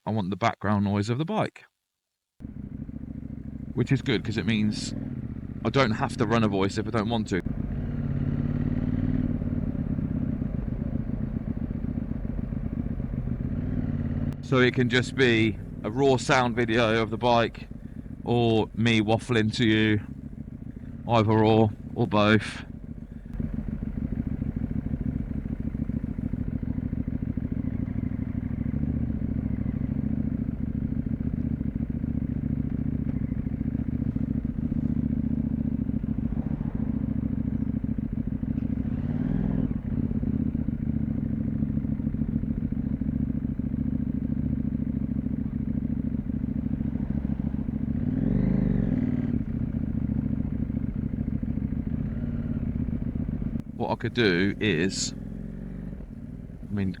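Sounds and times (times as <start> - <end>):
motorcycle engine running: 2.4 - 57.0
road and wind noise: 2.4 - 57.0.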